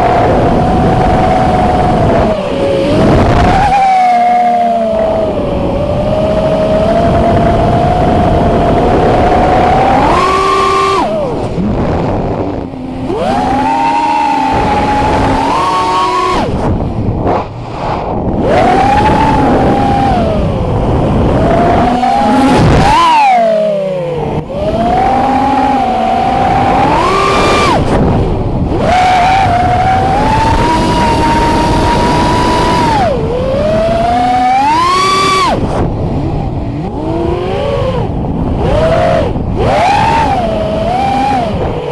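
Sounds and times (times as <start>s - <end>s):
quadcopter motors whining: 0.0s - 17.3s, 18.0s - 41.9s
rushing noise: 0.0s - 41.9s.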